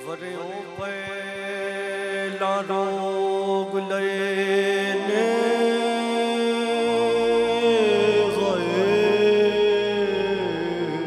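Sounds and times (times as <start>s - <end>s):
harmonium drone: 0.0s - 11.0s
man singing long notes: 0.0s - 11.0s.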